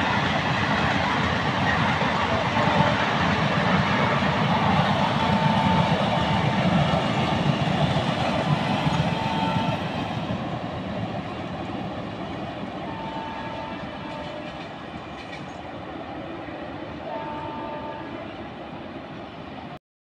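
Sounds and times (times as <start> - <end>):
train clickety-clack: 0.0 - 19.8.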